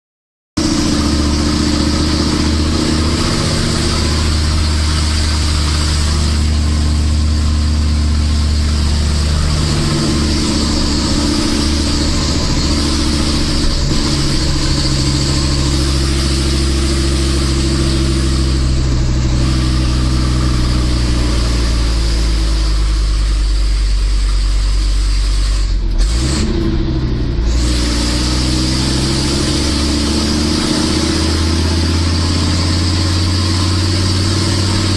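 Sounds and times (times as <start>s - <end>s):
truck diesel engine droning: 0.6s - 34.9s.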